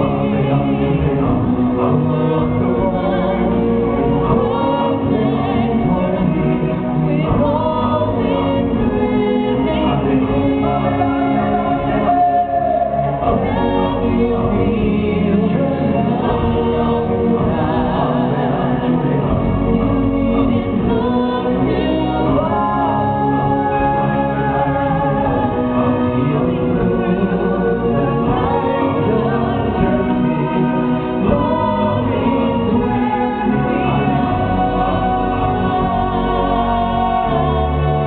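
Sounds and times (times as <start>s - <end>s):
choir singing: 0.0s - 38.0s
instrumental backing music: 0.0s - 38.0s.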